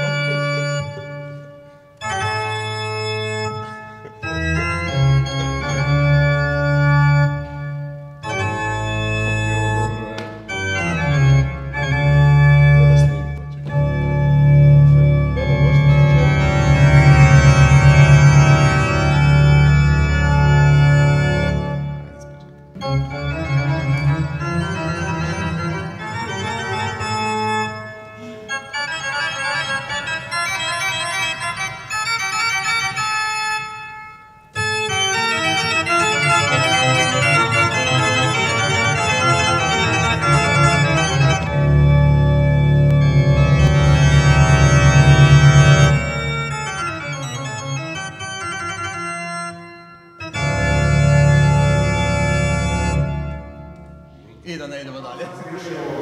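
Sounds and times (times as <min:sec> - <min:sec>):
electronic organ playing: 0:00.0 - 0:54.4.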